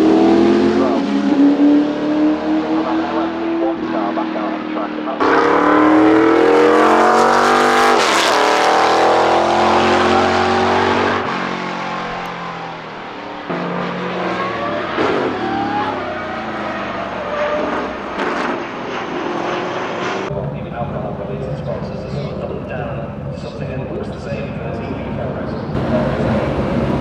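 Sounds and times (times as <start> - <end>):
racing car engine passing: 0.0 - 27.0.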